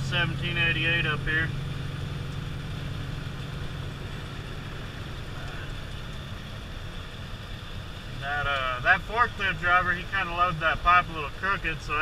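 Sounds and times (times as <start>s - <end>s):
diesel truck engine running: 0.0s - 12.0s
road and wind noise: 0.0s - 12.0s.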